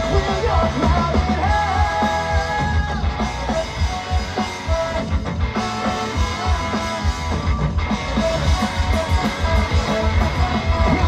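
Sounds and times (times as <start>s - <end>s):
drum kit steady beat: 0.0s - 11.0s
electric guitars: 0.0s - 11.0s
punk ska band playing: 0.0s - 11.0s.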